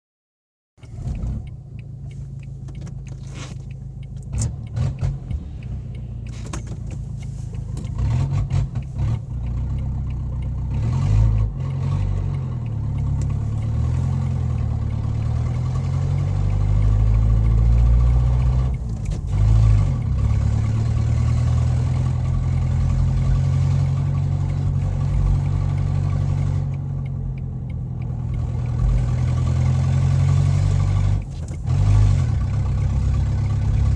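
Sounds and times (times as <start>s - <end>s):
car engine with rattly exhaust revving: 0.8s - 33.9s.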